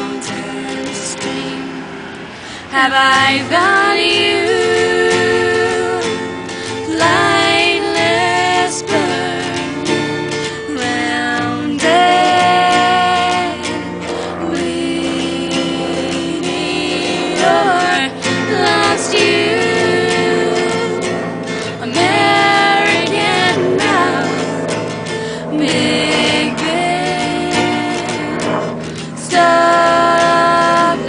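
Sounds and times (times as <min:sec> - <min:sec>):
person singing long notes: 0:00.0 - 0:31.0
instrumental accompaniment: 0:03.1 - 0:31.0.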